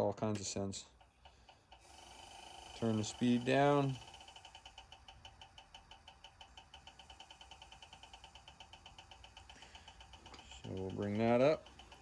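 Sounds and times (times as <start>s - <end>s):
faint rapid ticking: 0.9s - 12.0s
thin steady whine: 1.7s - 12.0s.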